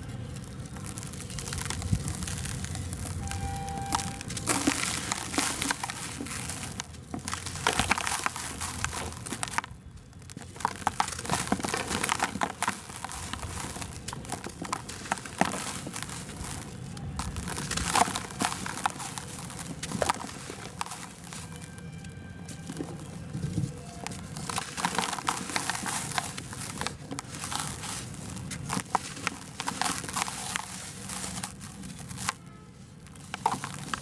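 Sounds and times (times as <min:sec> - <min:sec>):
blocks crunching and crumbling: 0:00.0 - 0:34.0.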